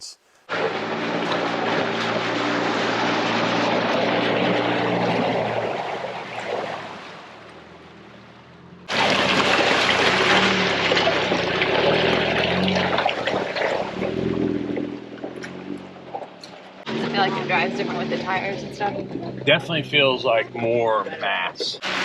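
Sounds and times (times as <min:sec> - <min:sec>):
off-road vehicle engine running: 0:00.0 - 0:22.0.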